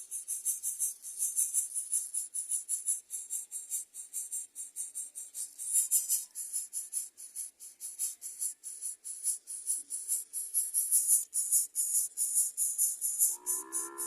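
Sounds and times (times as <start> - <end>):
rapid high-pitched chirping pulses: 0.0 - 14.0.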